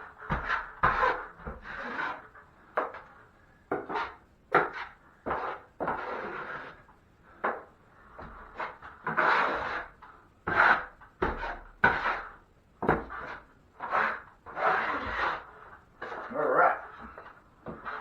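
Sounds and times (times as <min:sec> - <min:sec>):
taping knife scraping joint compound: 0:00.0 - 0:18.0.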